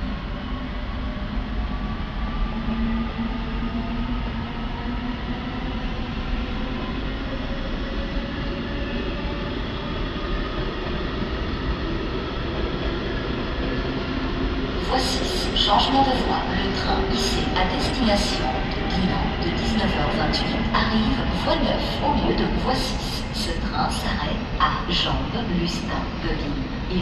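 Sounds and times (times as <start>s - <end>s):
train low rumble: 0.0s - 27.0s.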